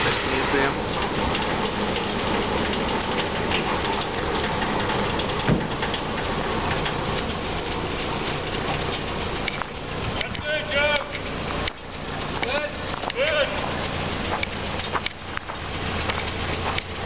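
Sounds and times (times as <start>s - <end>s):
turntable rumbling rattle: 0.0s - 17.0s.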